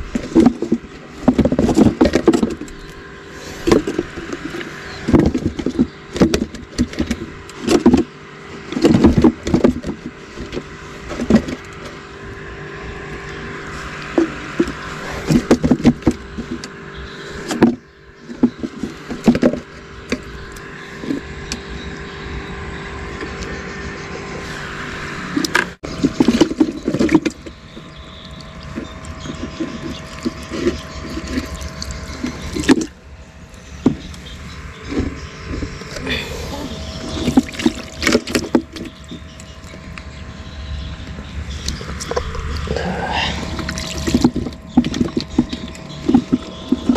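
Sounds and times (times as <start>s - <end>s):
water sloshing: 0.0s - 22.4s, 24.4s - 46.9s.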